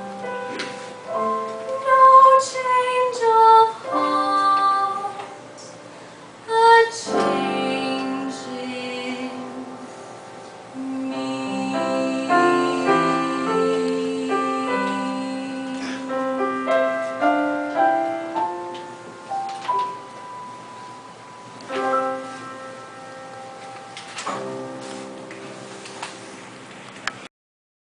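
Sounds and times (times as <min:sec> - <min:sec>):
slow piano chords and melody: 0:00.0 - 0:27.3.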